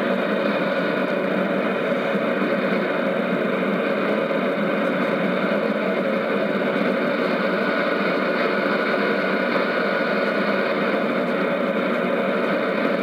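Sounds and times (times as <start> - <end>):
shortwave radio static: 0.0 - 13.0.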